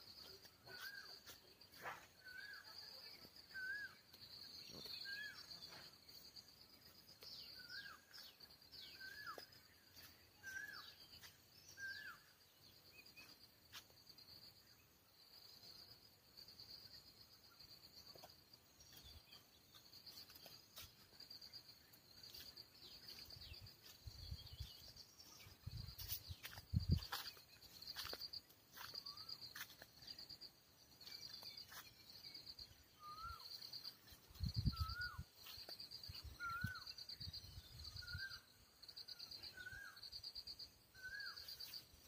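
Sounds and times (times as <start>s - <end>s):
birds chirping: 0.0s - 42.0s
insects trilling: 0.0s - 42.0s.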